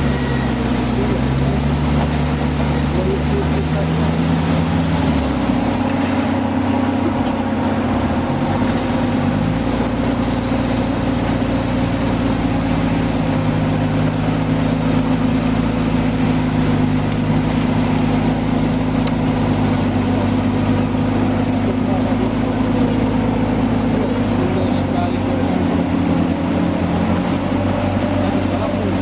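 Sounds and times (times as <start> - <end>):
vehicle engine running at low revs: 0.0 - 29.0.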